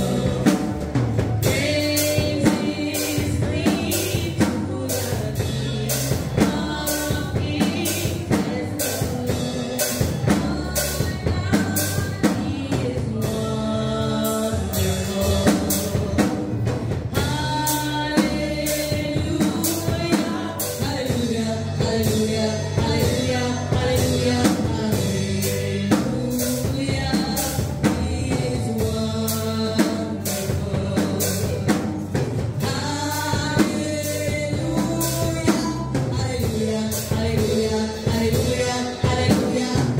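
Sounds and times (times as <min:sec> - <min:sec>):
backing voices singing: 0:00.0 - 0:39.9
band with drum kit: 0:00.0 - 0:39.9
woman singing into microphone: 0:00.0 - 0:39.9.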